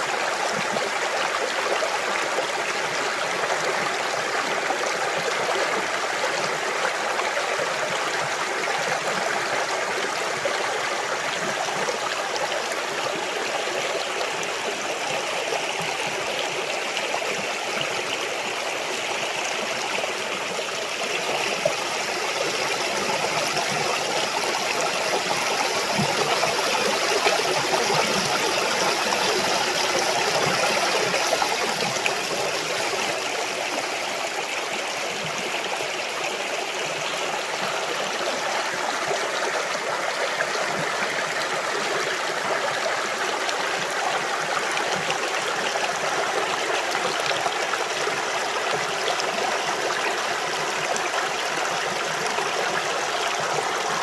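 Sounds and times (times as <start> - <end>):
creek water running over rocks: 0.0 - 54.0.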